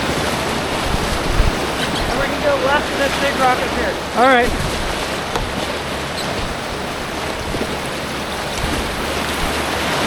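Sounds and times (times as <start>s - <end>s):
creek rapids rushing: 0.0s - 10.0s.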